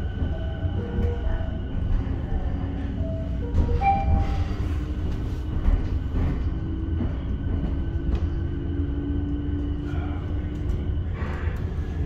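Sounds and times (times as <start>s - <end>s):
light-rail car rumbling on track: 0.0s - 12.0s.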